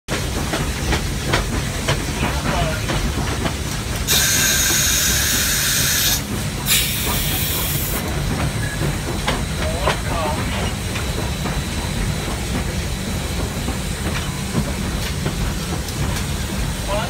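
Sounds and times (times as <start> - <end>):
locomotive low rumble: 0.1 - 17.0
steam hissing: 1.0 - 17.0.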